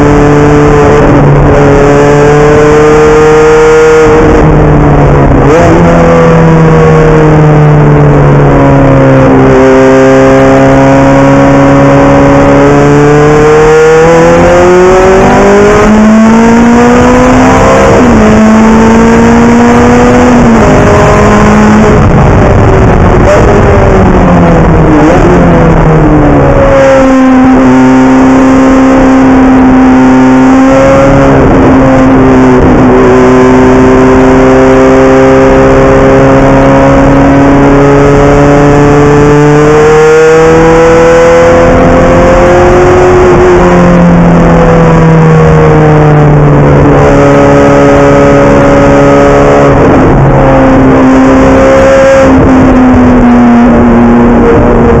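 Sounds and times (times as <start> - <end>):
race car engine from cabin: 0.0 - 55.0.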